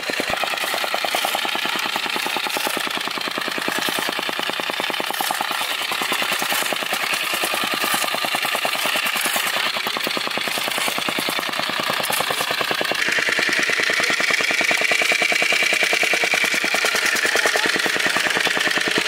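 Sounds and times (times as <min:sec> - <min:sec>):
construction machine hammering: 0:00.0 - 0:19.0.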